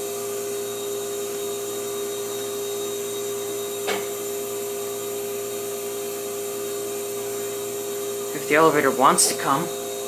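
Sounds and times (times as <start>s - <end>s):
ice machine humming: 0.0s - 10.0s.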